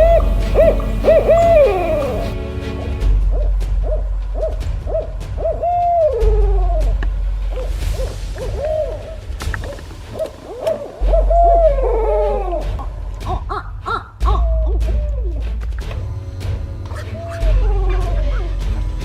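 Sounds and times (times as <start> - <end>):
owls hooting: 0.0 - 2.4, 3.3 - 15.4, 16.9 - 18.8
low rumble: 0.0 - 19.0.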